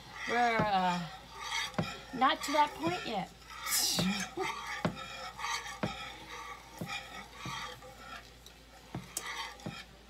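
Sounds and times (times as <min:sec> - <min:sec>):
whisk clicking against pan: 0:00.0 - 0:10.0
whisk swishing in sauce: 0:00.0 - 0:10.0.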